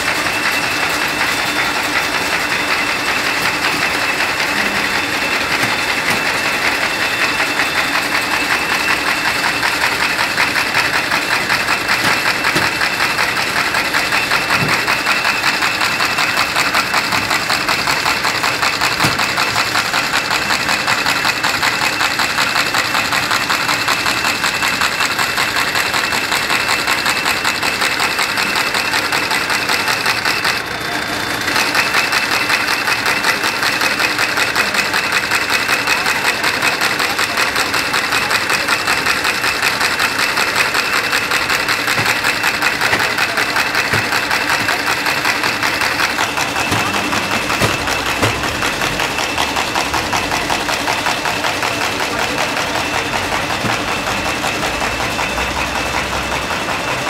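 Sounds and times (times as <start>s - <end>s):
paper machine mechanical clatter: 0.0s - 57.0s.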